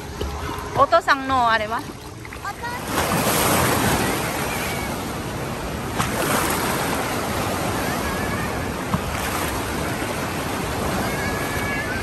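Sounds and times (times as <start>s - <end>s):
waves breaking and rushing: 0.0s - 12.0s.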